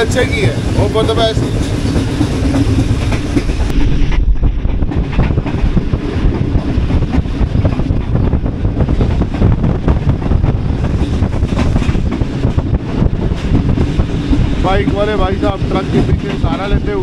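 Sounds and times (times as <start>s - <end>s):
train low rumble: 0.0s - 17.0s
wind buffeting microphone: 0.0s - 17.0s.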